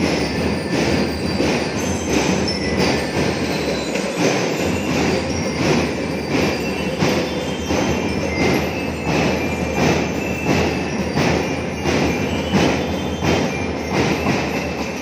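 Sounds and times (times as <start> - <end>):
bell lyres ringing: 0.0 - 15.0
snare and bass drums: 0.0 - 15.0.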